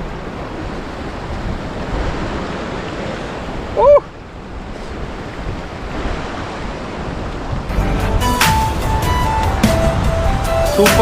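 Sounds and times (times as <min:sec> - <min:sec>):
sea surf washing in: 0:00.0 - 0:11.0
wind buffeting microphone: 0:00.0 - 0:11.0.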